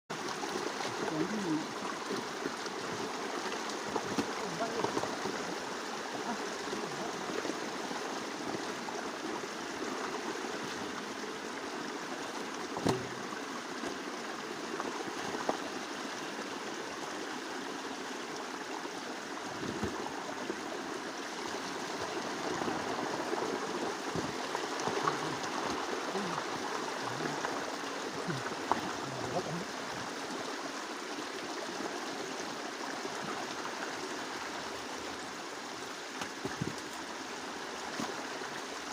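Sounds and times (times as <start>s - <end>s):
running water: 0.1s - 38.9s.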